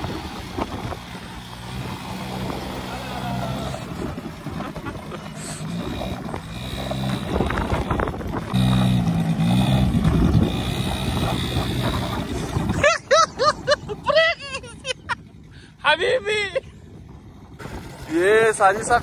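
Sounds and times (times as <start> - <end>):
quad bike engine revving: 0.0 - 19.0.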